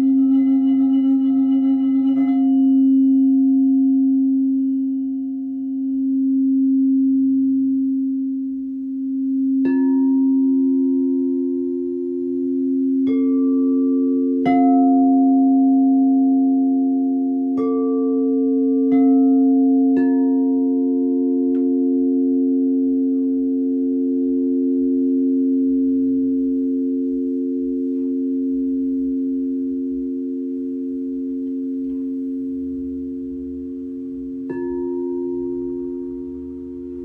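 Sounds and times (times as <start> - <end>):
singing bowl low tone: 0.0 - 37.0.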